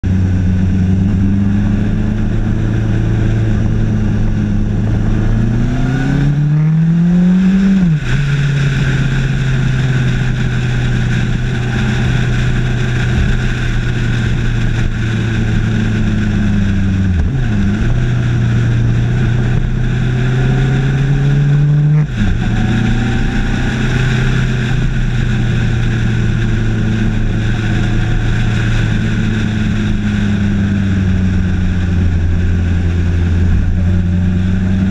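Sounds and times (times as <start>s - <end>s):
motorcycle engine accelerating: 0.0s - 34.9s
wind and road noise: 0.0s - 34.9s.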